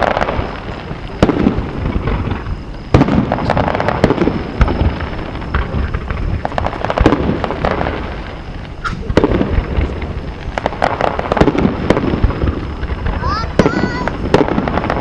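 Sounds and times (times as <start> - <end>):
fireworks bangs and crackles: 0.0 - 15.0
low rumble: 0.3 - 13.2.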